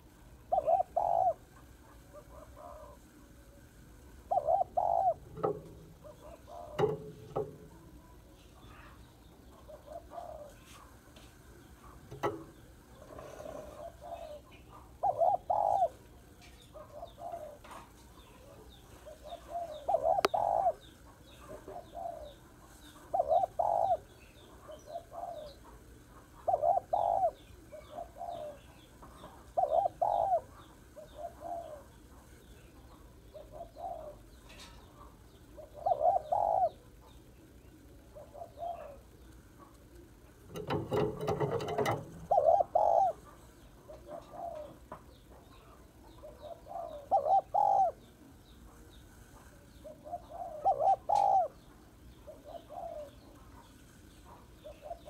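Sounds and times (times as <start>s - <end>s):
dove cooing: 0.0s - 11.0s, 11.6s - 55.0s.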